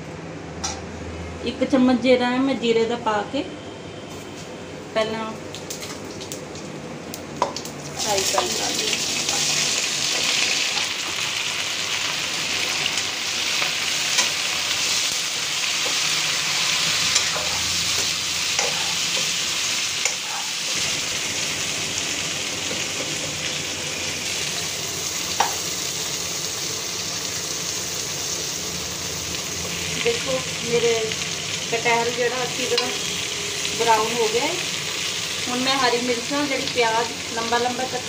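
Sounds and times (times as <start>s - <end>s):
food sizzling in oil: 7.2s - 38.0s.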